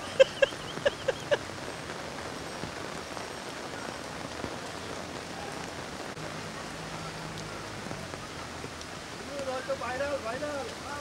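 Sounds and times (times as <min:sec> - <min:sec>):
heavy rain on standing water: 0:00.0 - 0:11.0.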